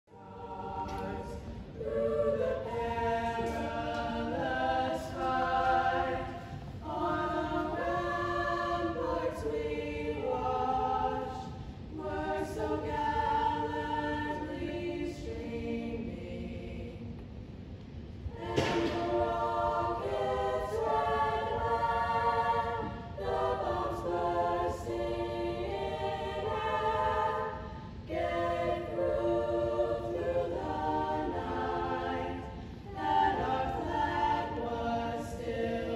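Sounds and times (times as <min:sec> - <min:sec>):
female choir singing: 0:00.0 - 0:17.3, 0:18.2 - 0:35.9.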